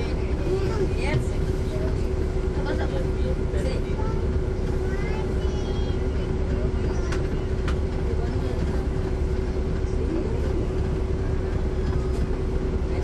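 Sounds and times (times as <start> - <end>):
bus diesel engine rumbling: 0.0 - 13.0
constant engine whine: 0.0 - 13.0.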